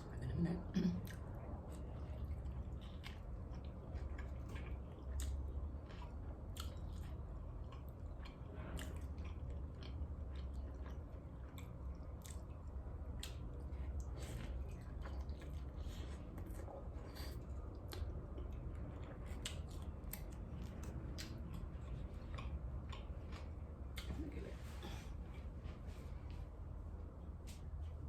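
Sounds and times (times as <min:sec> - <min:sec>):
close chewing mouth sounds: 0:00.0 - 0:24.9.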